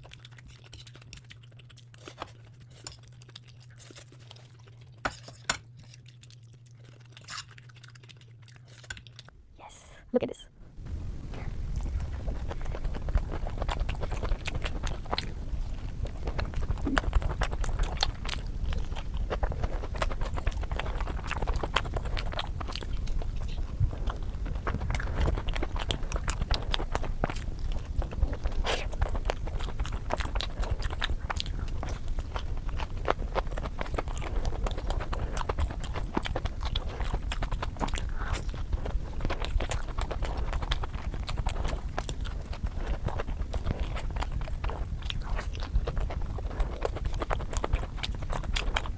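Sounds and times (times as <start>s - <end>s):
chewing and crunching food: 0.0s - 9.8s, 10.8s - 48.9s
steady low rumble: 0.0s - 48.9s.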